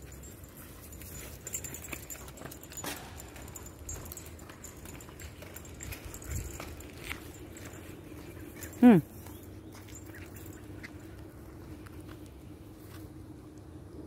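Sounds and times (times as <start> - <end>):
chain leash clinking: 0.0 - 12.2
dog footsteps tapping: 0.0 - 13.0.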